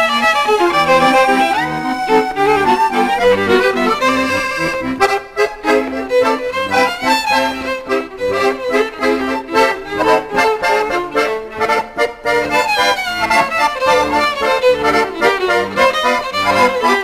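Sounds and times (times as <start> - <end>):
accordion melody: 0.0 - 17.0.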